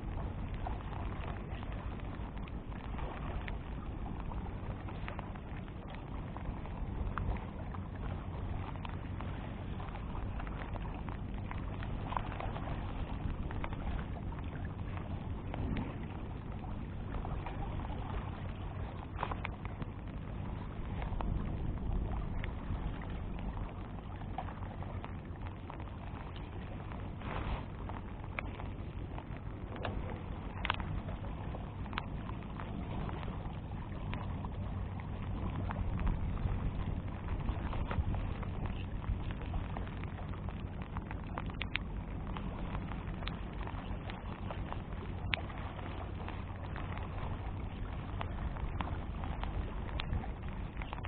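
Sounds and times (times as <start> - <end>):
faint ticks: 0.0 - 51.0
rushing water: 0.0 - 51.0
wind: 0.0 - 51.0.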